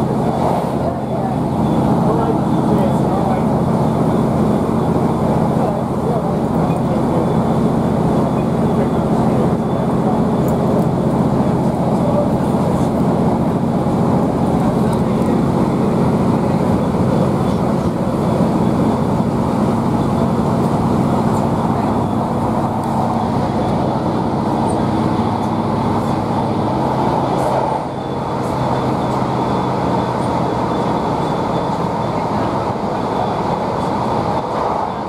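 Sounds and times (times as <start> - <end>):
diesel engine drone: 0.0 - 35.0
wheels rumbling on rail: 0.0 - 35.0.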